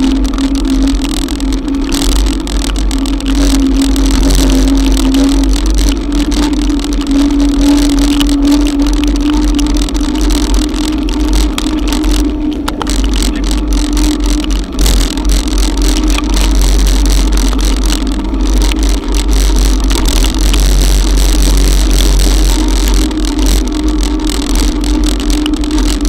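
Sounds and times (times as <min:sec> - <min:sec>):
electric bicycle motor hum: 0:00.0 - 0:26.0
rain hissing: 0:00.0 - 0:26.0
wind rumble: 0:00.0 - 0:26.0.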